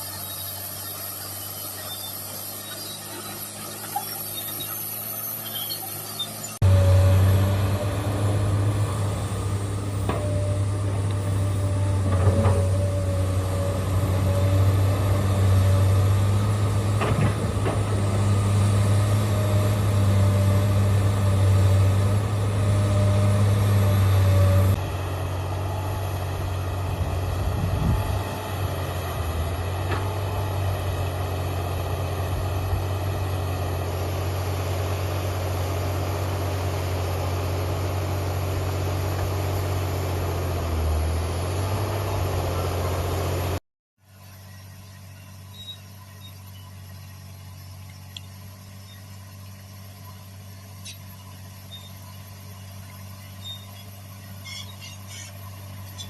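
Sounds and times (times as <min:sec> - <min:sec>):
heavy diesel engine running: 0:00.0 - 0:56.0
quiet engine hum: 0:00.0 - 0:56.0.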